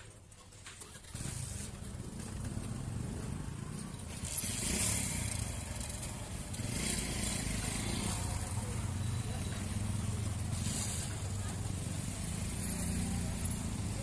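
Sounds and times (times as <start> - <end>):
road traffic: 0.0 - 14.0
motorcycle engines pulling away: 0.8 - 14.0.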